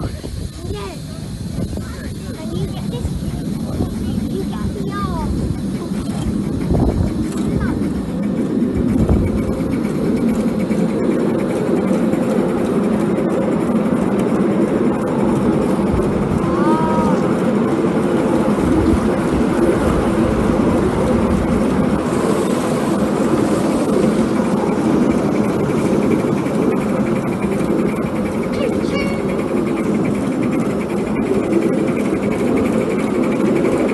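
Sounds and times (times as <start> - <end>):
model steam locomotive running: 0.0 - 33.9.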